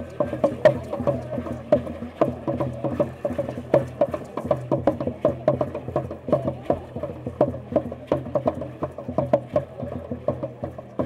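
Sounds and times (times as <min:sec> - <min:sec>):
percussion clicks and knocks: 0:00.0 - 0:11.0.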